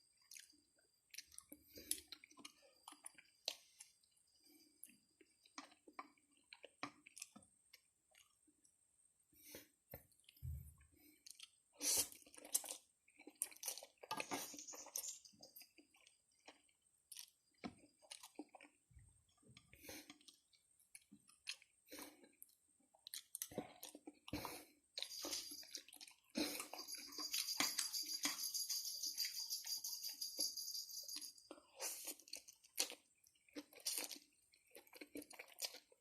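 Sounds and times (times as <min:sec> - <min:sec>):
person chewing food: 0:00.1 - 0:08.8, 0:09.4 - 0:28.3, 0:31.4 - 0:36.0.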